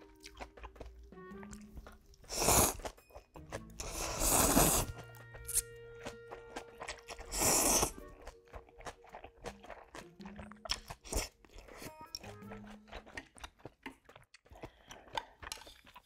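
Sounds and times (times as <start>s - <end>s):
wet chewing with smacks: 0.0s - 16.0s
person slurping noodles: 2.3s - 2.9s, 3.8s - 16.0s.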